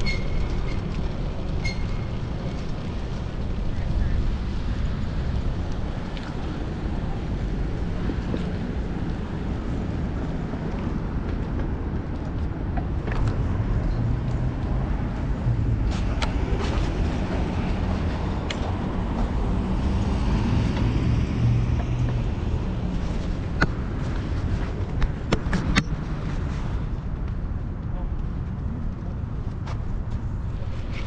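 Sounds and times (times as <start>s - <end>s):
street traffic: 0.0s - 31.0s.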